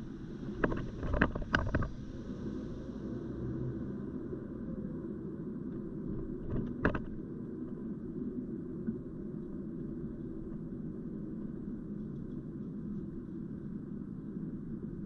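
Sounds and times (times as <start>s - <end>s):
car engine rumble and tyre noise: 0.0s - 15.0s.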